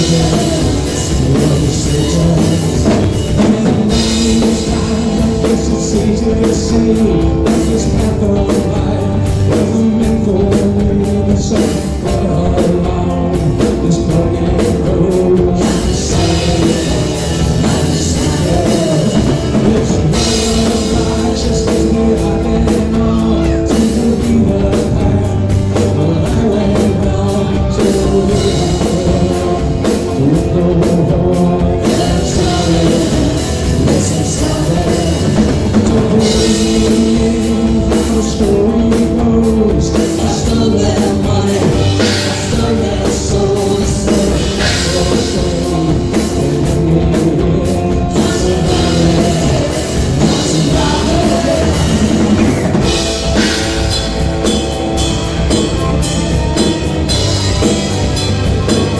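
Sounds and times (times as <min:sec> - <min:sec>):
drum kit beat: 0:00.0 - 0:58.9
live rock band playing: 0:00.0 - 0:58.9
person singing: 0:00.0 - 0:58.9.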